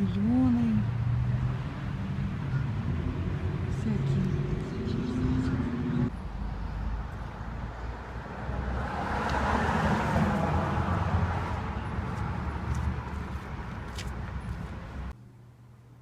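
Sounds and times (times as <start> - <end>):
car passing: 0.5 - 15.1.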